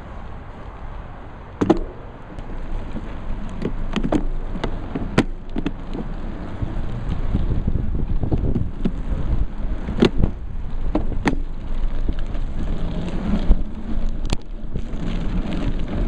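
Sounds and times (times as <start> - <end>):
low rumble of rolling bike: 0.0 - 16.0
cycling shoe clicking into pedal: 2.9 - 16.0.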